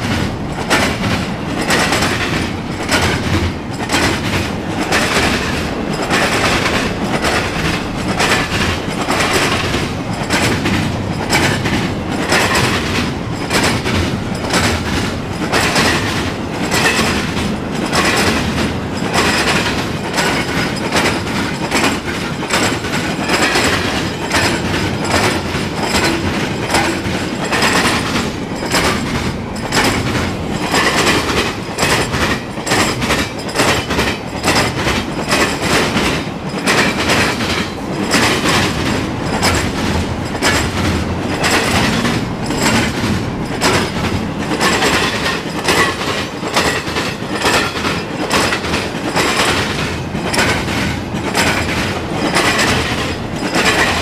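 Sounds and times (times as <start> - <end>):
train rumble: 0.0 - 54.0
wheels clicking over rail joints: 0.0 - 54.0.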